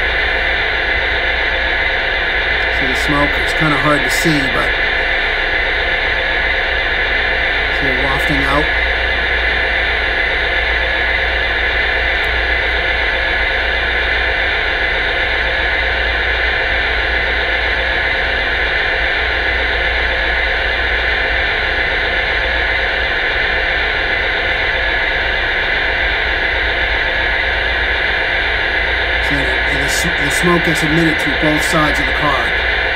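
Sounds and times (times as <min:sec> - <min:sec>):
diesel generator drone: 0:00.0 - 0:32.9.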